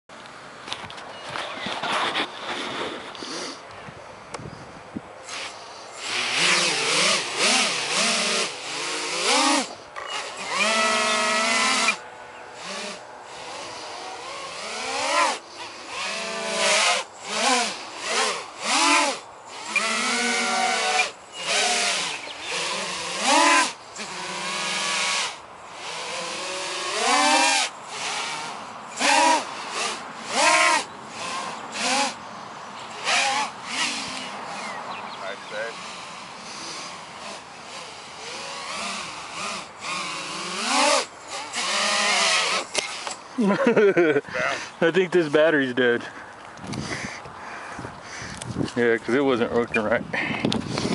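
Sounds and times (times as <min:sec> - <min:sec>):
quadcopter motors whining: 0:03.1 - 0:50.9.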